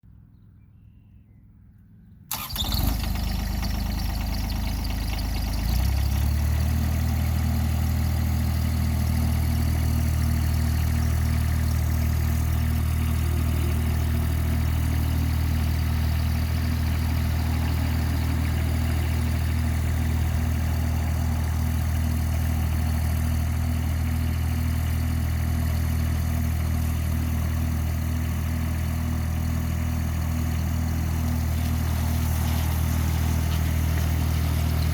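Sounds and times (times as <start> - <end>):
engine starting and idling: 2.3 - 28.0, 28.7 - 34.9.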